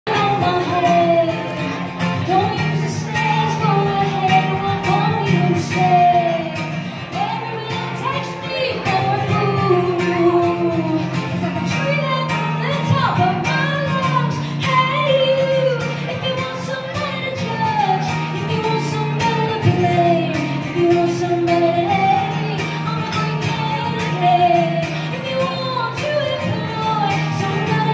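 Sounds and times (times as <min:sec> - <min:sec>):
guitar-led band playing: 0:00.0 - 0:27.9
woman singing: 0:00.1 - 0:27.9.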